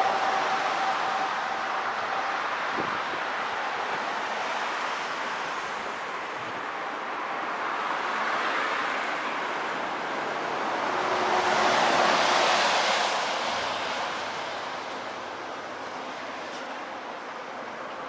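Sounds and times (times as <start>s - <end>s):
traffic tyre noise: 0.0s - 18.0s
wind: 0.0s - 18.0s.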